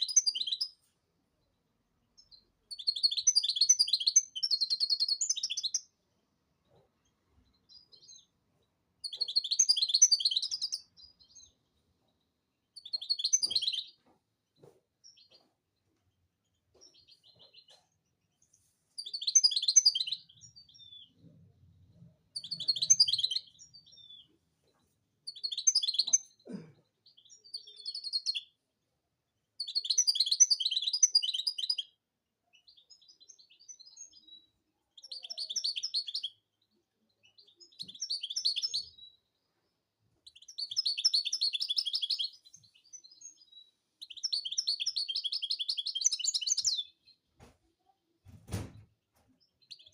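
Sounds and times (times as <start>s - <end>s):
finch twittering song: 0.0s - 1.5s, 2.2s - 6.0s, 6.6s - 15.5s, 16.4s - 28.6s, 29.6s - 47.3s, 49.3s - 49.9s.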